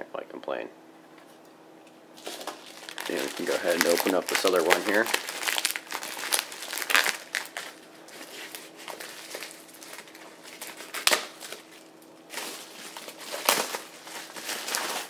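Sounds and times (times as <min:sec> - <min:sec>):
bubble wrap rustling and crinkling: 0:02.2 - 0:15.0.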